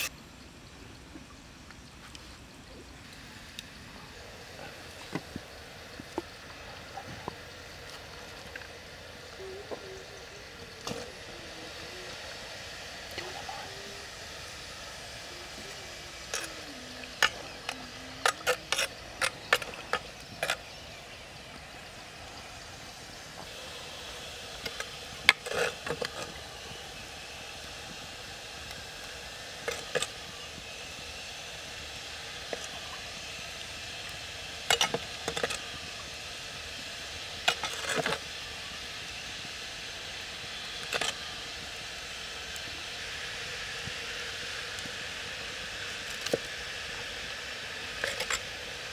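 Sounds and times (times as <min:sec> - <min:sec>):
steady hiss: 0:00.0 - 0:48.9.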